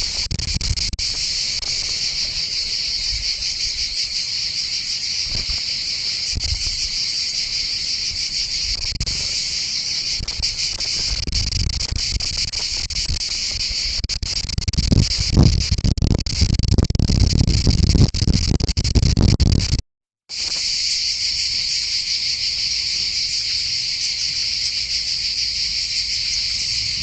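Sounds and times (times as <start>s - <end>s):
insects chirring: 0.0s - 19.6s, 20.3s - 27.0s.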